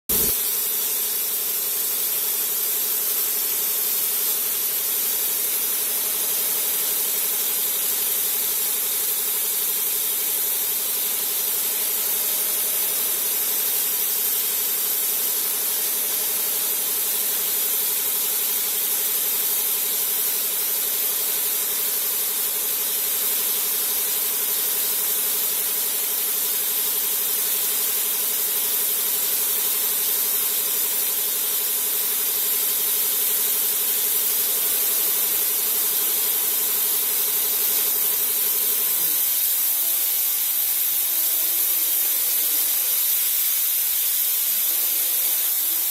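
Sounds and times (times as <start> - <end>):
machinery hiss with faint whine: 0.1 - 45.9.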